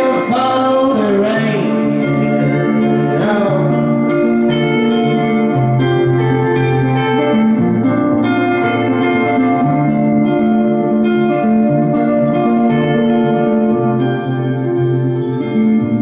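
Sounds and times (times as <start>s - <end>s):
electric guitar chords: 0.0s - 16.0s.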